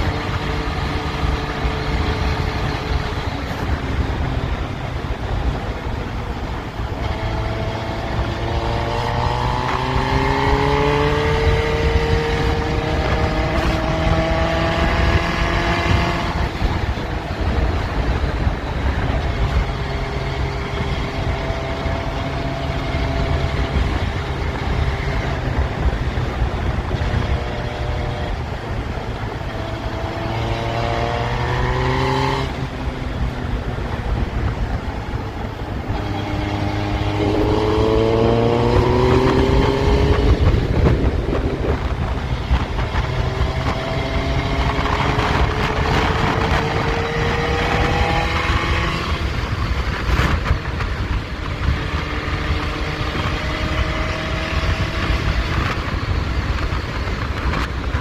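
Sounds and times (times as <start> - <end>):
motorcycle engine accelerating: 0.0 - 58.0
wind rushing: 0.0 - 58.0.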